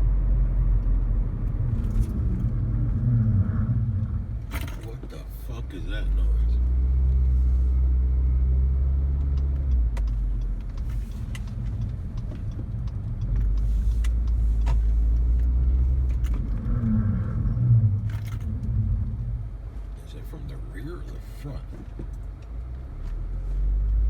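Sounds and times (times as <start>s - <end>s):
car engine low drone: 0.0s - 24.0s.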